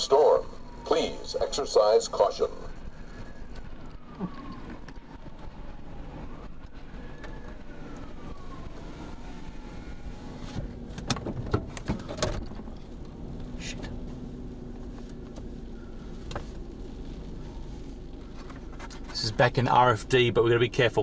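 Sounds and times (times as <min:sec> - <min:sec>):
vehicle cabin engine rumble: 0:00.0 - 0:21.0.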